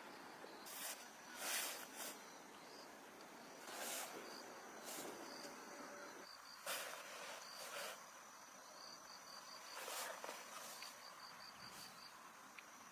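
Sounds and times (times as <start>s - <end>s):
insects chirping: 0.0s - 12.9s.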